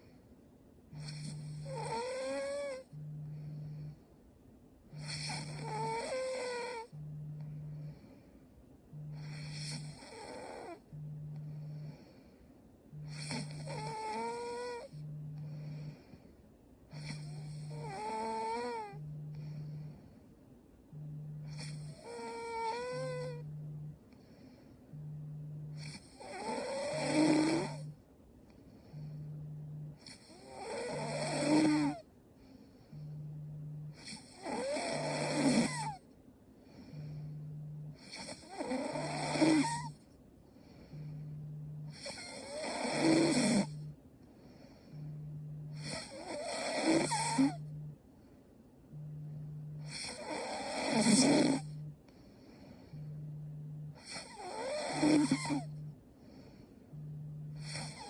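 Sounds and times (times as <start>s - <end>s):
quiet breathing: 0.0s - 58.0s
woman snoring: 0.9s - 4.1s, 4.8s - 8.3s, 8.9s - 28.0s, 28.7s - 40.0s, 40.6s - 47.9s, 48.9s - 58.0s.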